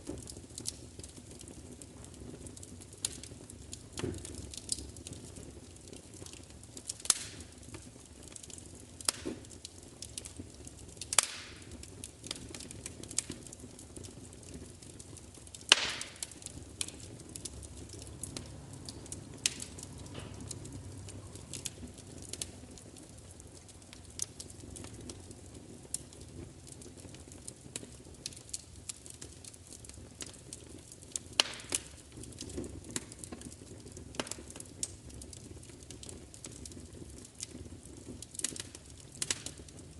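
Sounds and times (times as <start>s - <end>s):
fire pops and snaps: 0.0s - 39.9s
low hiss and rumble: 0.0s - 39.9s
wood fire crackling: 0.0s - 39.9s.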